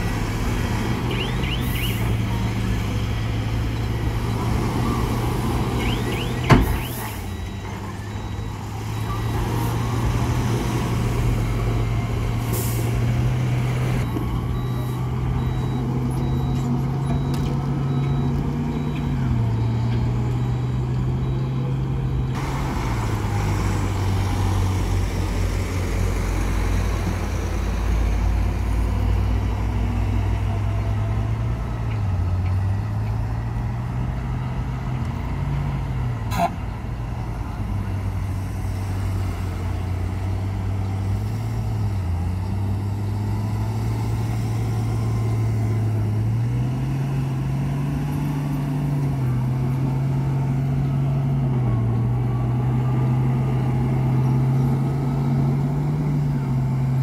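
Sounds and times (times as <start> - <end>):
truck diesel engines revving: 0.0 - 57.0.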